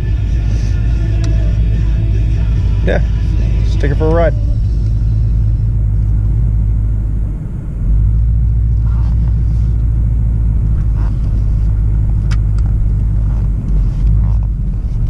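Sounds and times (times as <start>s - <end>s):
car engine rumbling driving off: 0.0s - 15.0s.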